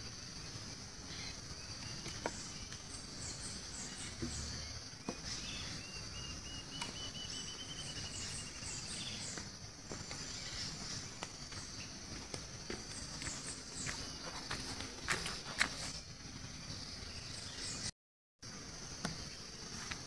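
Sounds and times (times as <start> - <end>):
insect chorus: 0.0 - 20.0
birds chirping: 1.0 - 17.9.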